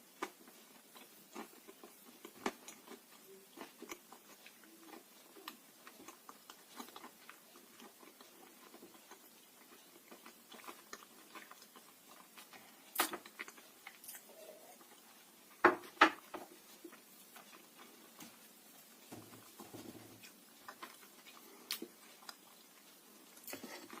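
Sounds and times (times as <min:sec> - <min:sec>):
chewing clay crunches: 0:00.0 - 0:15.6, 0:16.2 - 0:24.0.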